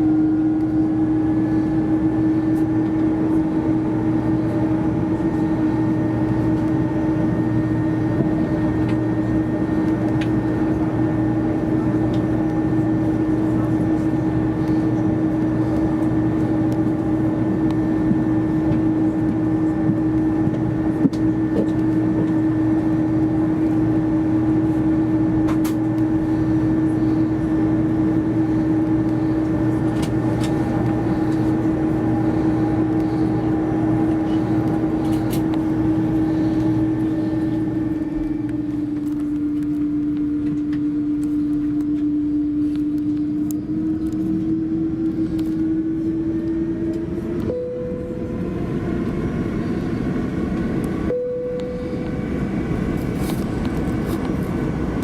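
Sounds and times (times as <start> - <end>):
jet engine cabin drone: 0.0 - 55.0.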